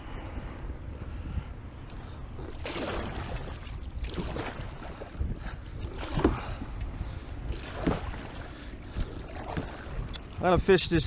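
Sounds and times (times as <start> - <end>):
wind rumble on microphone: 0.0 - 11.0
water splashing against kayak: 2.0 - 11.0.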